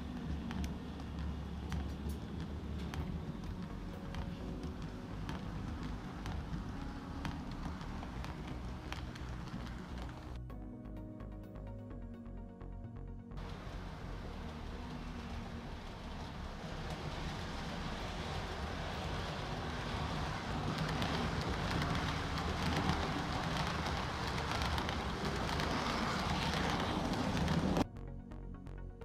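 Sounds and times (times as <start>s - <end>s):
model train wheels rumbling: 0.0s - 10.4s, 13.4s - 27.8s.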